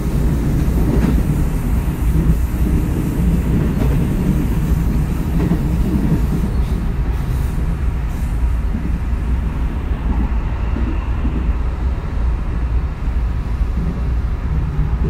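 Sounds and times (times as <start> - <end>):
train running heard from inside: 0.0 - 15.0.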